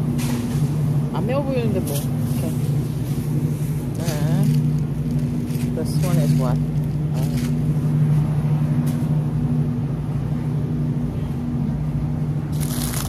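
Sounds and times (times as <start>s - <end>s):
machinery humming: 0.0s - 13.0s.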